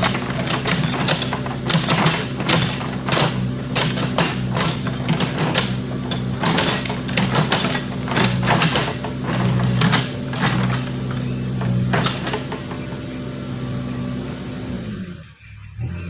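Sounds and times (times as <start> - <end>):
knocks and clatter of digging: 0.0 - 15.0
diesel engine running: 0.0 - 16.0.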